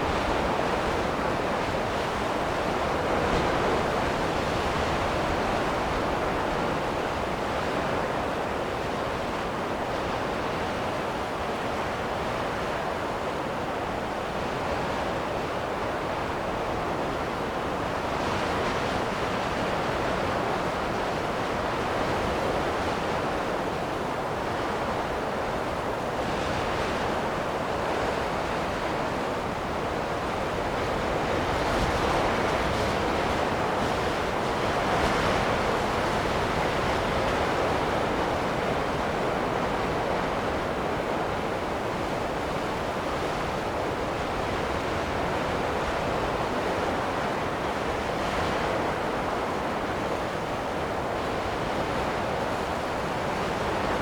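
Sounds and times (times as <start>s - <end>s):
wind blowing in gusts: 0.0s - 54.0s.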